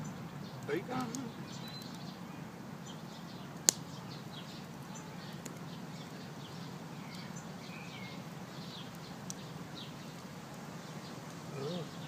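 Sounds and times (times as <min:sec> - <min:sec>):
low steady background noise: 0:00.0 - 0:12.0
small birds chirping: 0:00.0 - 0:12.0
wood fire crack: 0:00.0 - 0:12.0.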